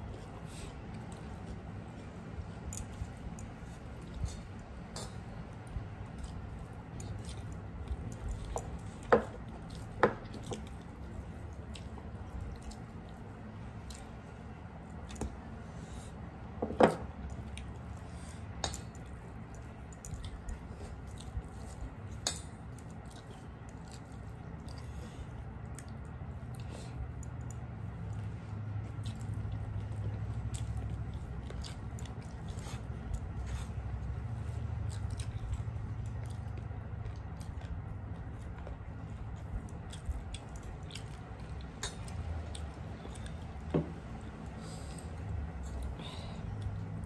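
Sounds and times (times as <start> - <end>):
chewing: 0.0 - 47.0
fingers squishing rice and curry: 0.0 - 47.0.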